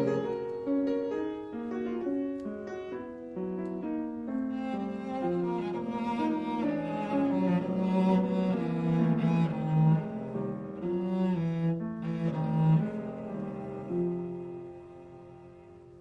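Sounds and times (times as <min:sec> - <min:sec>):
cello bowed melody: 0:00.0 - 0:16.0.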